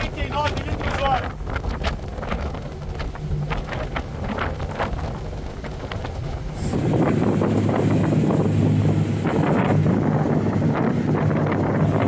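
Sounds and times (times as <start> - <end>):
boat engine drone: 0.0 - 12.0
wind and water rushing: 0.0 - 12.0.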